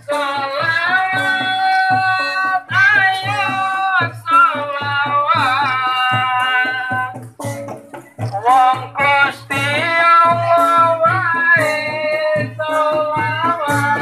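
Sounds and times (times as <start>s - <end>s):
hand drum beat: 0.0s - 14.0s.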